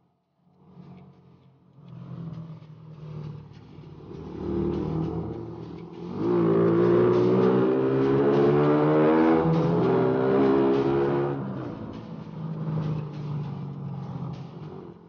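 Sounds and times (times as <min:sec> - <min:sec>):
motorcycle engine accelerating: 0:01.9 - 0:15.0.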